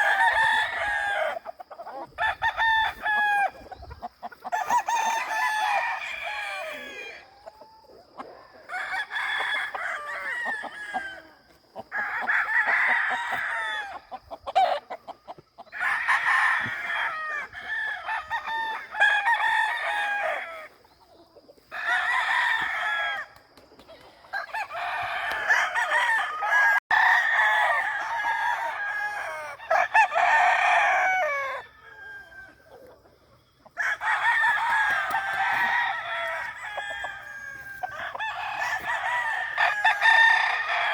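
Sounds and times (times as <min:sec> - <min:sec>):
roosters crowing: 0:00.0 - 0:20.8, 0:21.6 - 0:40.9.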